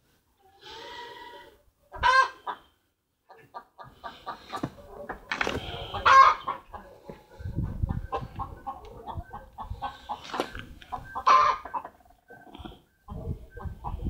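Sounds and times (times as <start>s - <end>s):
chickens clucking: 1.5s - 14.0s.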